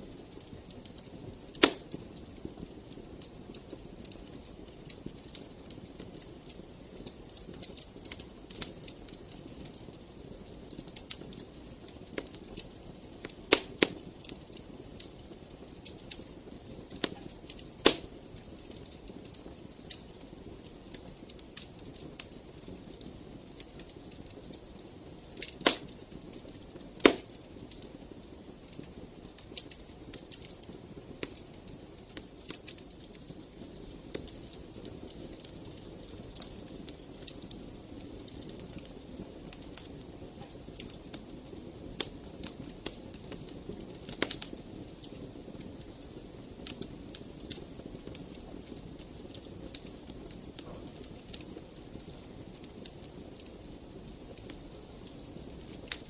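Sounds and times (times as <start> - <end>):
fire pops and snaps: 0.0 - 56.0
low rush of flame: 0.0 - 56.0
wood fire crackling: 0.0 - 56.0.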